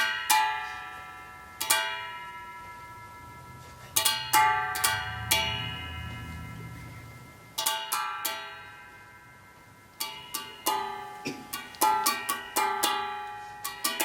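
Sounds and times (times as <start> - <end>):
zither strings plucked: 0.0 - 14.0.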